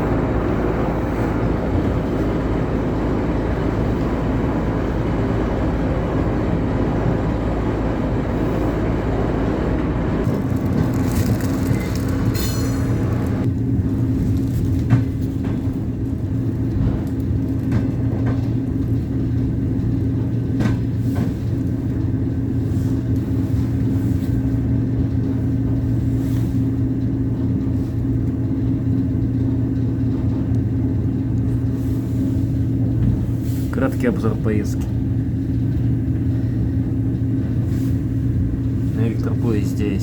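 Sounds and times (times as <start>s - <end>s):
electric train rumble and hum: 0.0s - 40.0s.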